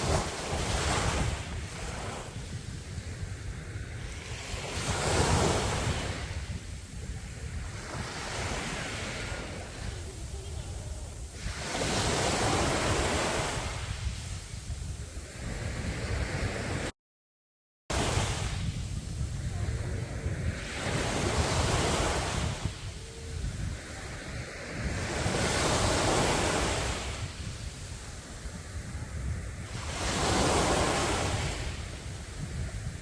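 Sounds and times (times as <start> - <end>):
sea waves breaking on a beach: 0.0 - 16.9, 17.9 - 33.0
wind on the microphone: 0.0 - 16.9, 17.9 - 33.0.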